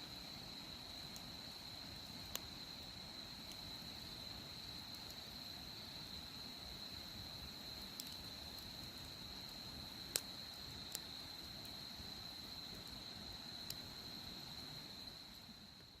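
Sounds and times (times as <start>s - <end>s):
wood fire popping: 0.0s - 16.0s.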